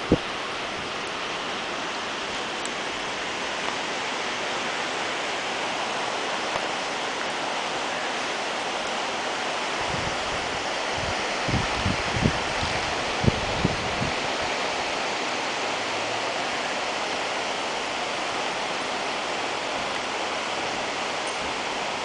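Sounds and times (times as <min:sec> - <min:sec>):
flooded river rushing: 0:00.0 - 0:22.0.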